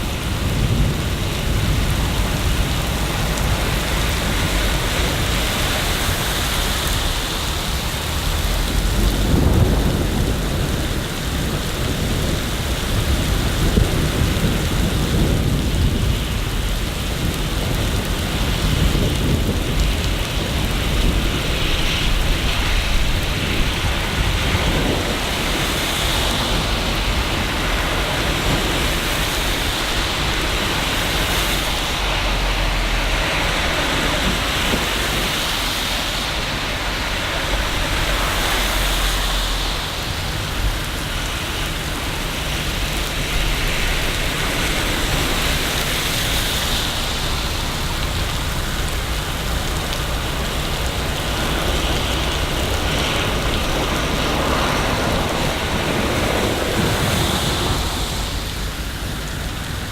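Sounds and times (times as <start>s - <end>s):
low city rumble: 0.0s - 59.9s
rain falling hiss: 0.0s - 59.9s.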